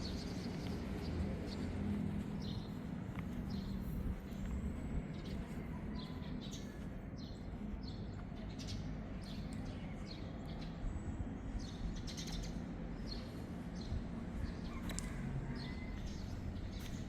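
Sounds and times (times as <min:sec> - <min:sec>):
small birds chirping: 0:00.0 - 0:14.0
low outdoor background hum: 0:00.0 - 0:17.0.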